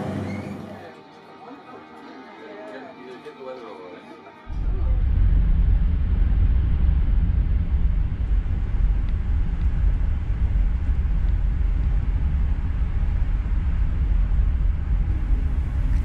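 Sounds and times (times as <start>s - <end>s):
passenger train rumbling: 0.0s - 2.3s, 4.4s - 16.0s.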